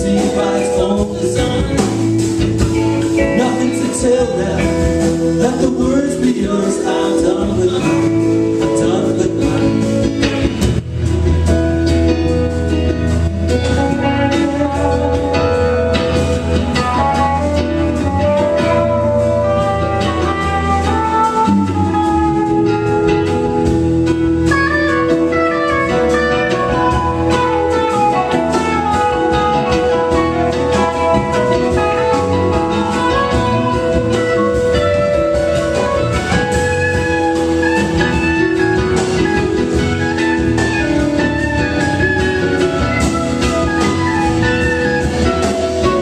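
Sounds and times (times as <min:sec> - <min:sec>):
bass guitar: 0:00.0 - 0:46.0
drum kit: 0:00.0 - 0:46.0
electric guitar lead lines: 0:00.0 - 0:46.0
keyboards: 0:00.0 - 0:46.0.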